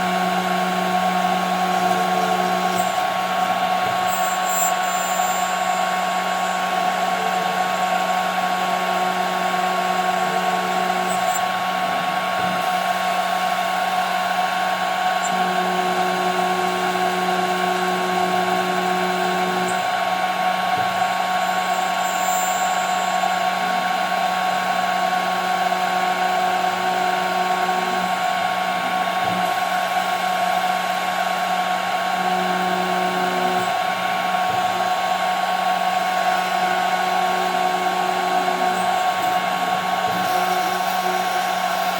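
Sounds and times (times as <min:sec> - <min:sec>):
machine spindle whining: 0:00.0 - 0:41.9.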